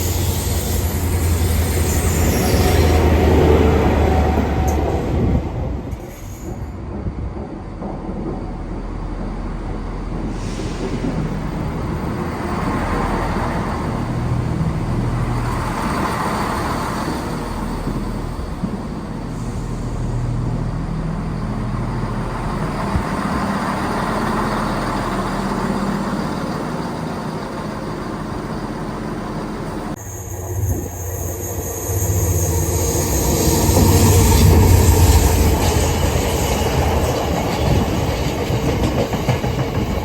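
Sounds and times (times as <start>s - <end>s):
diesel train engine hum: 0.0s - 40.0s
train rumbling: 0.0s - 40.0s.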